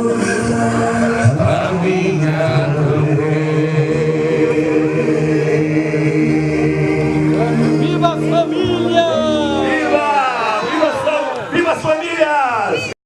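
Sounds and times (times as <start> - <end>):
chanted singing with held notes: 0.0 - 11.6.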